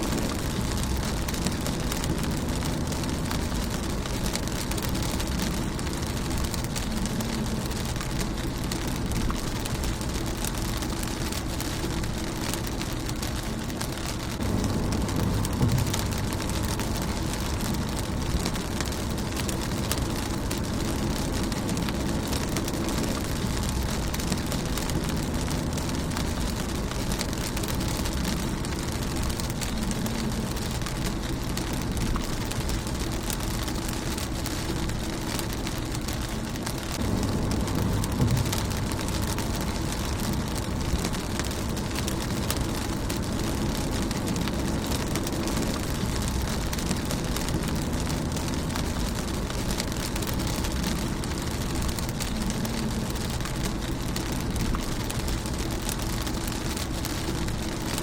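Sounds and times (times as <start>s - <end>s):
low rumble: 0.0s - 58.0s
rain pattering on windshield: 0.0s - 58.0s.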